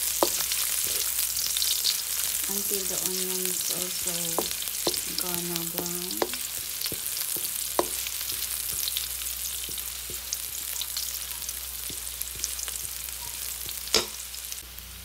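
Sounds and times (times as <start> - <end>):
garlic and onion sizzling in oil: 0.0 - 15.0.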